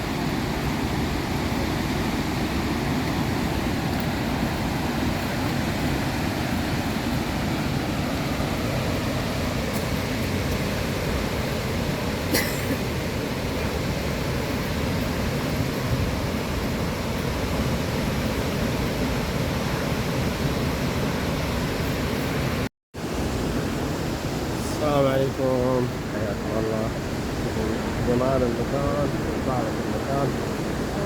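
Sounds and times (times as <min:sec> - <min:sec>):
waterfall roaring: 0:00.0 - 0:22.7, 0:23.3 - 0:31.0.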